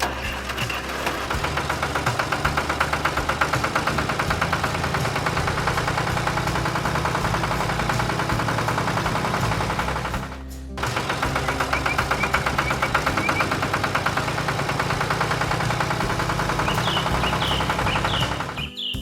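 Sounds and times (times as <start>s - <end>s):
tractor engine chugging: 0.0s - 19.0s.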